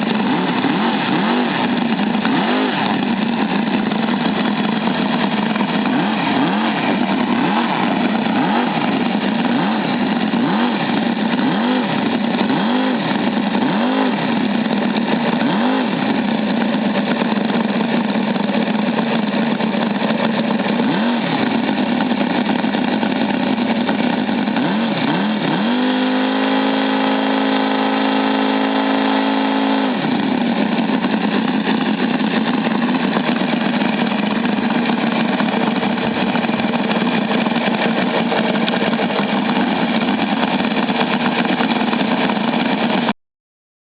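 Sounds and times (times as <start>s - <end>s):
model glow engine running: 0.0s - 43.1s.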